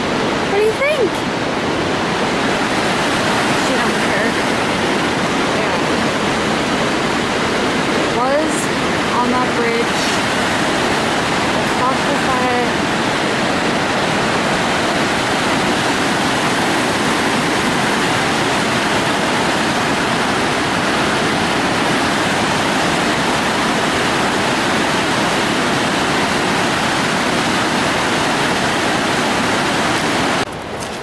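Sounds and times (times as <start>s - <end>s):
waterfall and rapids roaring: 0.0s - 31.0s.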